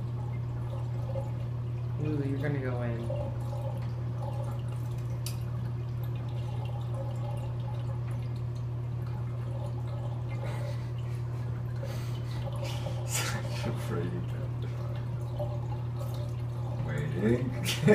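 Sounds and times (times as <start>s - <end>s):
steady low hum: 0.0s - 17.9s
water dripping into bathtub: 0.0s - 17.9s.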